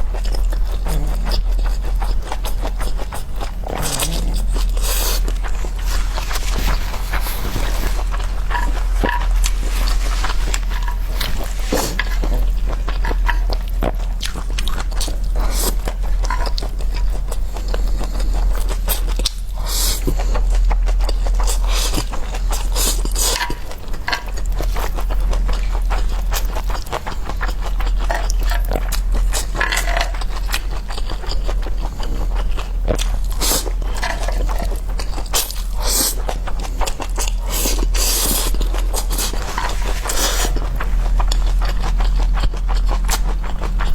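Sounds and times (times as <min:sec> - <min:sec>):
chewing and crunching food: 0:00.0 - 0:43.9
steady low hum: 0:00.0 - 0:43.9.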